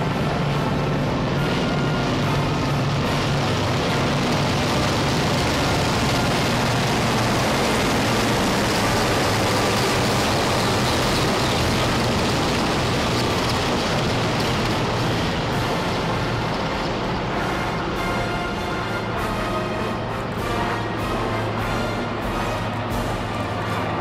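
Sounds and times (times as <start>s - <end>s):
helicopter rotor and engine noise: 0.0s - 24.0s.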